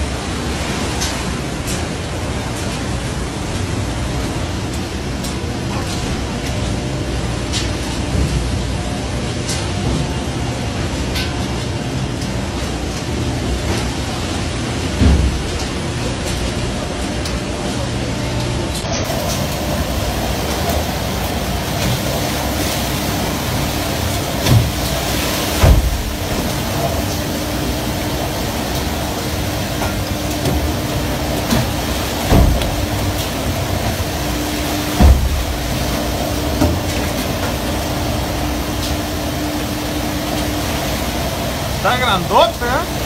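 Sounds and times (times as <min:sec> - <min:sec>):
sea water churning along hull: 0:00.0 - 0:43.0
ship engine droning: 0:00.0 - 0:43.0.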